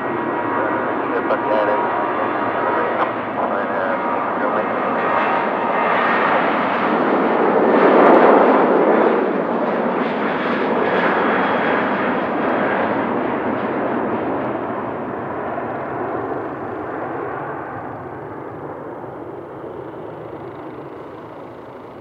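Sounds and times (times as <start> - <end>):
jet engines at takeoff power: 0.0 - 22.0.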